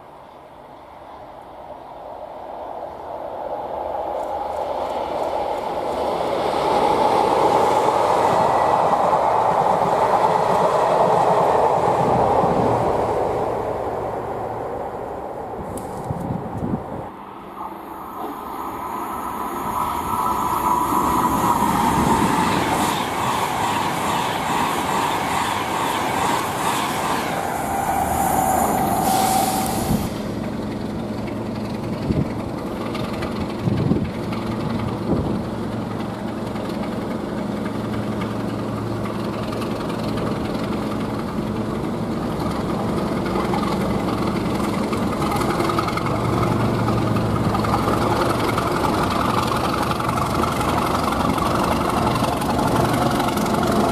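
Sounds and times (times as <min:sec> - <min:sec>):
diesel locomotive engine drone: 0:00.0 - 0:53.9
electric train passing with whine: 0:00.0 - 0:53.9.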